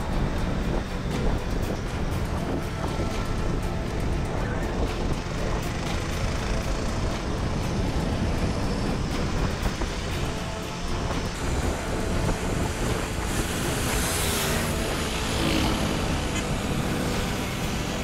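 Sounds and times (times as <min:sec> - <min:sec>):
scooter road noise: 0:00.0 - 0:18.0
wind buffeting microphone: 0:00.0 - 0:18.0.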